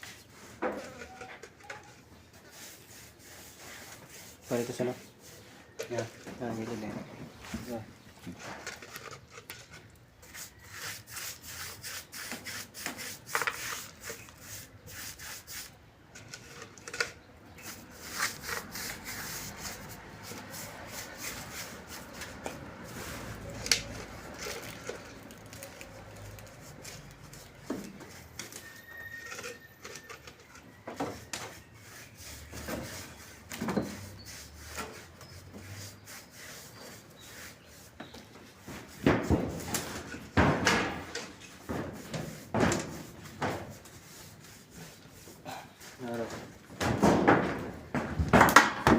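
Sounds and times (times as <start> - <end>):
scraping and rubbing: 0.0 - 46.6.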